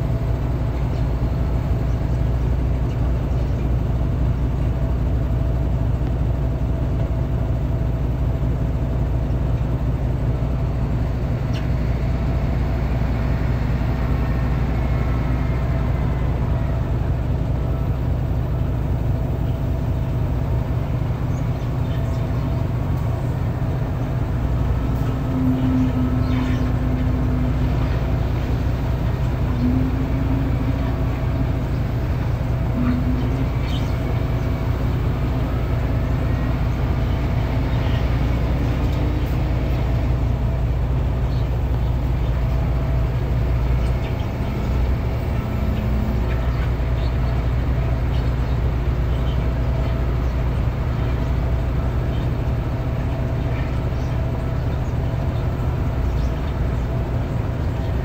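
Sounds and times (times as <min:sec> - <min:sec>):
diesel loader engine rumbling: 0:00.0 - 0:58.0
humming tone: 0:10.3 - 0:58.0.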